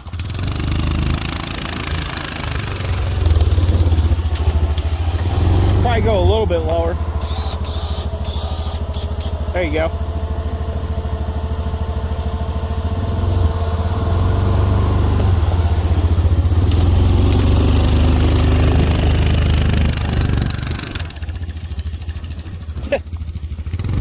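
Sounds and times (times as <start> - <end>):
truck engine pushing snow: 0.0 - 24.0.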